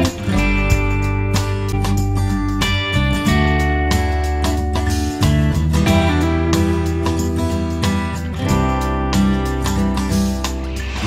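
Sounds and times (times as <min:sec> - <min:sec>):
acoustic guitar background music: 0:00.0 - 0:11.0.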